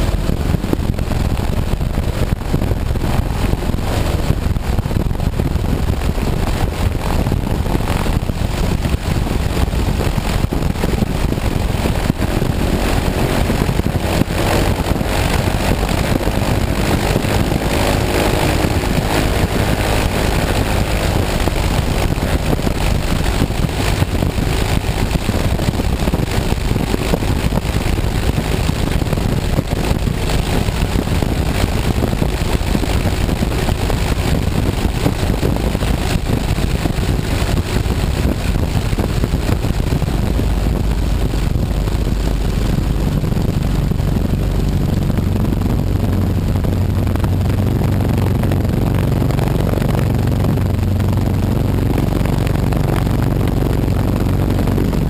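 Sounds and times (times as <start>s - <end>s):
biplane engine and propeller: 0.0s - 55.0s.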